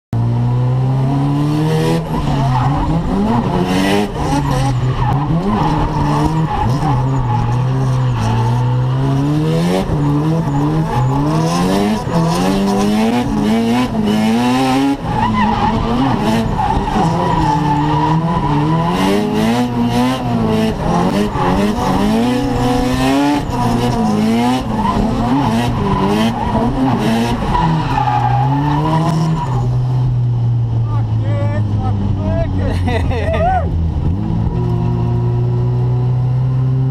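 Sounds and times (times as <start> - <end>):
car engine revving: 0.2 - 36.9
tyres skidding and squealing: 1.1 - 34.6.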